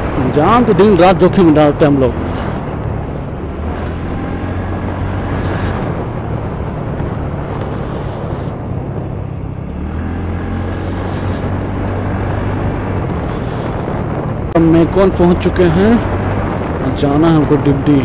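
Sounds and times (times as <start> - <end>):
road and air noise: 0.0 - 18.0
scooter engine droning: 0.0 - 18.0.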